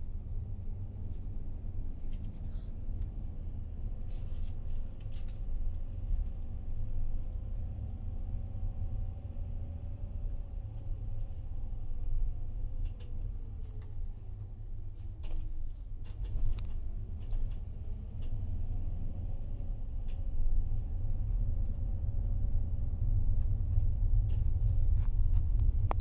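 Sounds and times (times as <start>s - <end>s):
engine hum: 0.0s - 26.0s
road rumble: 0.0s - 26.0s.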